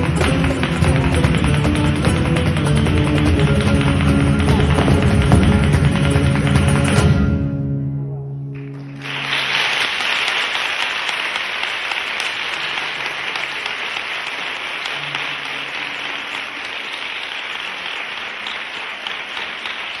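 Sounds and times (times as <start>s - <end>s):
crowd applauding: 0.0s - 7.1s, 8.5s - 20.0s.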